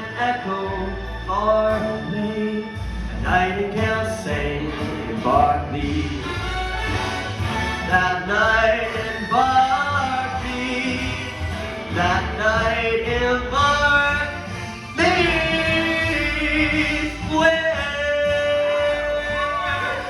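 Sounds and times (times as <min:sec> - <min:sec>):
musical accompaniment: 0:00.0 - 0:20.0.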